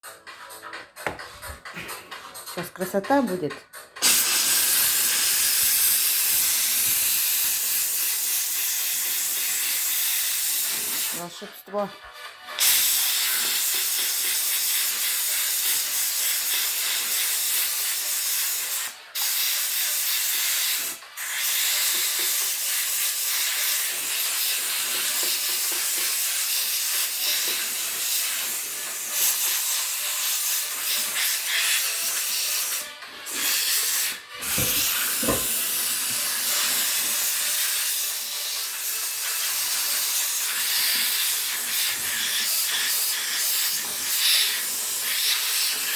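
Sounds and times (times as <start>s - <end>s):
loud hiss of escaping steam: 4.0s - 11.2s, 12.6s - 45.9s.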